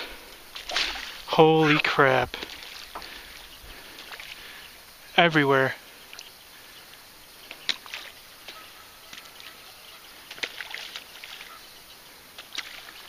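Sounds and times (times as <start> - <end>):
small water splashes: 0.0 - 4.8, 5.9 - 13.0.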